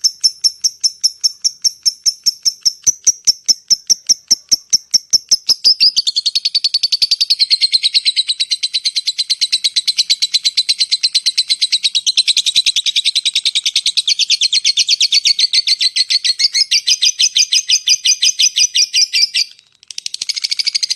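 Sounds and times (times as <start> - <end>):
songbird trilling high chirps: 0.0 - 20.9.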